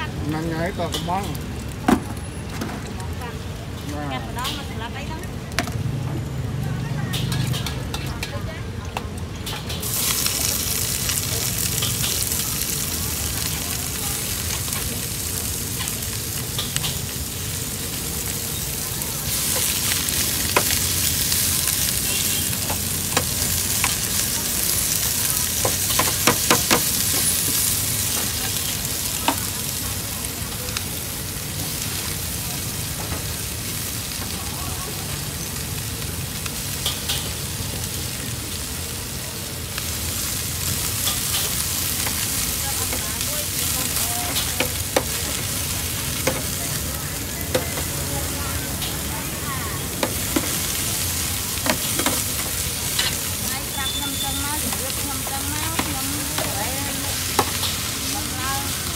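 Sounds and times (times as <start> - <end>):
food sizzling in a pan: 0.0 - 58.9.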